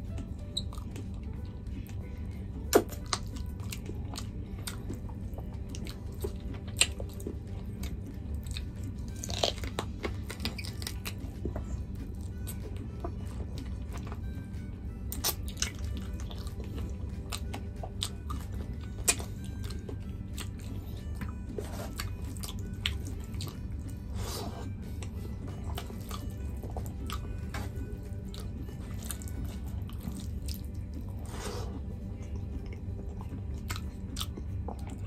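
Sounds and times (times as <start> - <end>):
soft chewing: 0.0 - 35.0.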